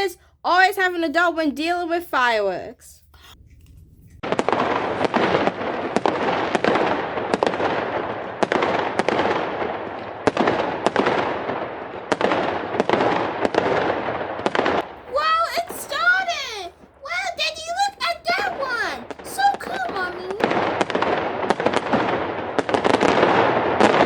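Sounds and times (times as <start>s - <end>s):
fireworks bangs: 4.1s - 24.0s
fireworks crackling: 4.1s - 24.0s.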